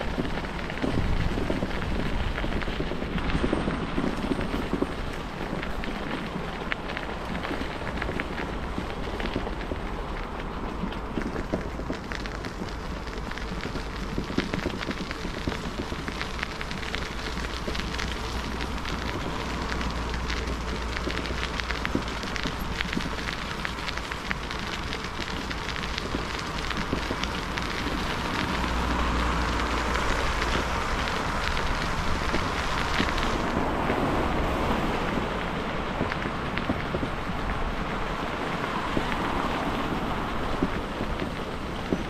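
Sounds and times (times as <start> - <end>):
bicycle tyres rolling on grit: 0.0 - 42.0
wind on microphone: 0.0 - 42.0.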